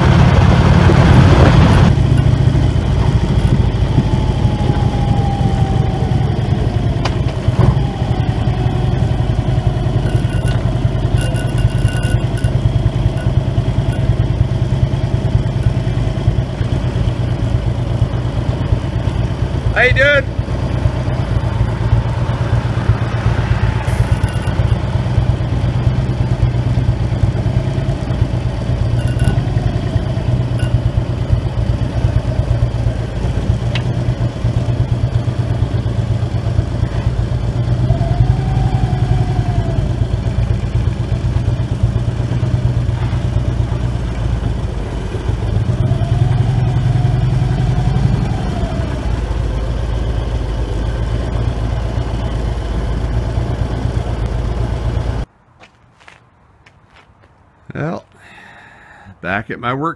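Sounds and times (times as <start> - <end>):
motorcycle engine running: 0.0 - 55.3.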